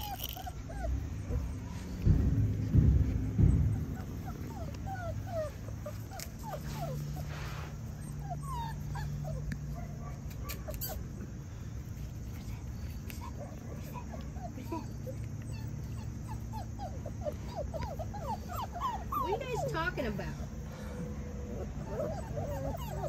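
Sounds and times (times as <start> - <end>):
low steady hum: 0.0 - 23.0
puppies whimpering and yipping: 0.0 - 23.0.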